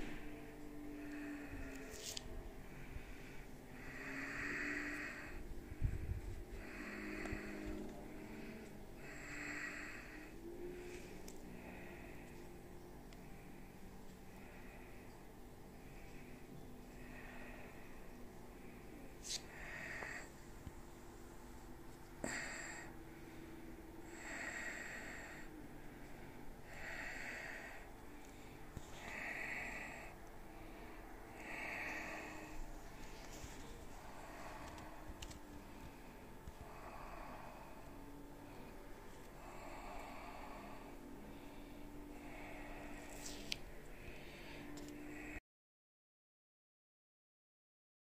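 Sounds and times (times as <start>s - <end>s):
person breathing close: 0.0s - 45.4s.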